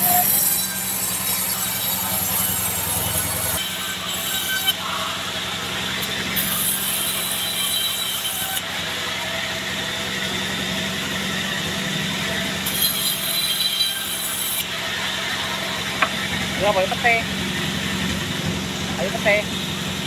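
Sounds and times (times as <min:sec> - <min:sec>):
band saw cutting log: 0:00.0 - 0:20.0
constant machine hum: 0:00.0 - 0:20.0.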